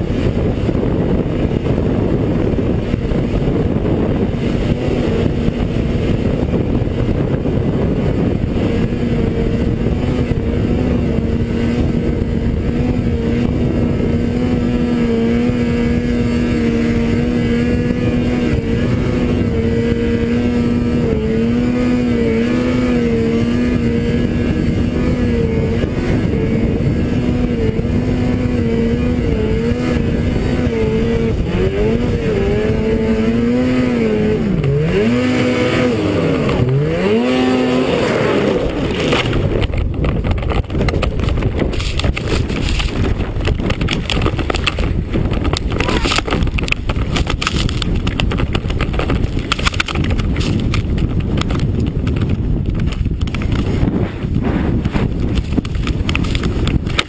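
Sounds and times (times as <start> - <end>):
constant rushing noise: 0.0 - 57.0
snowmobile engine running: 0.0 - 57.0.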